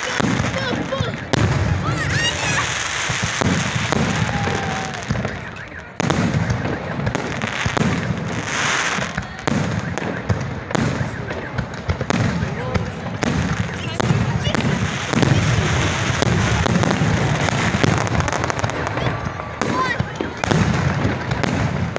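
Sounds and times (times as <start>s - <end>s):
fireworks bangs: 0.0s - 21.9s
fireworks crackling: 0.0s - 21.9s.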